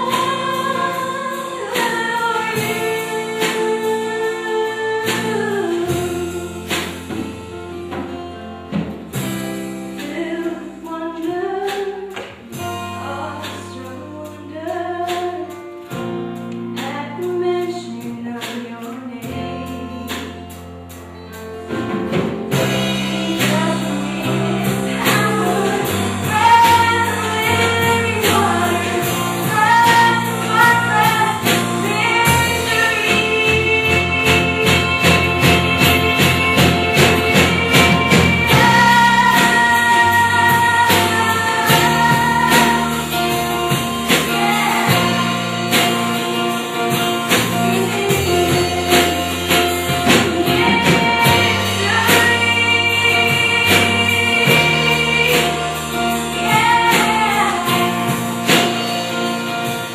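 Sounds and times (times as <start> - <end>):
woman singing: 0.0 - 7.5, 9.9 - 16.0, 16.7 - 20.6, 22.5 - 59.9
drums beat: 0.0 - 10.6, 21.7 - 59.9
bass notes: 0.0 - 59.9
guitar: 0.0 - 59.9.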